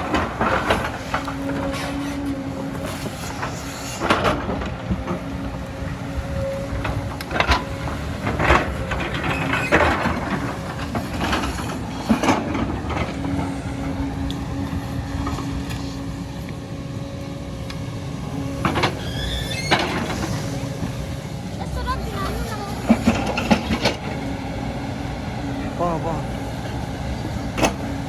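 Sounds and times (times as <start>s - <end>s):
excavator humming: 0.0s - 28.0s.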